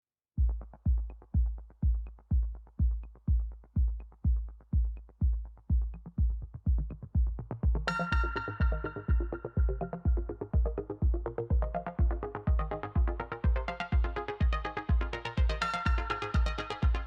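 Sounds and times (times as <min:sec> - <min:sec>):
deep kick drum: 0:00.4 - 0:17.0.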